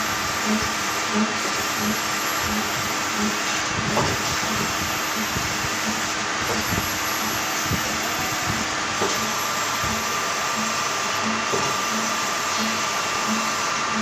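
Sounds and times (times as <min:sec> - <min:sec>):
lathe whirring hum: 0:00.0 - 0:14.0.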